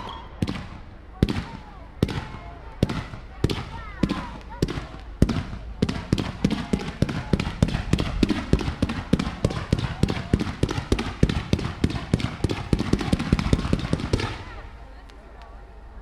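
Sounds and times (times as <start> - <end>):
fireworks bangs: 0.0 - 15.5
fireworks crackle: 0.0 - 15.6.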